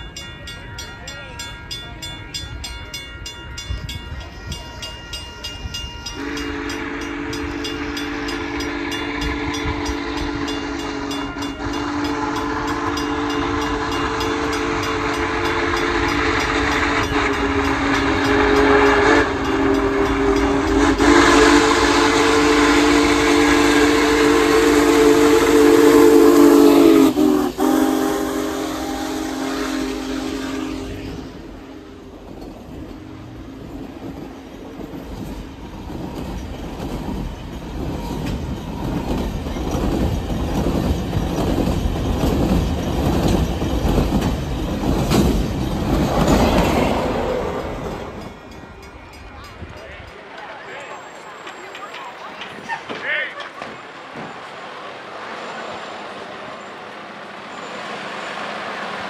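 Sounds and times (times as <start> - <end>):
steam locomotive chime whistle: 0.0 - 36.6, 37.3 - 53.0, 55.3 - 59.0
locomotive rumble: 0.0 - 59.0.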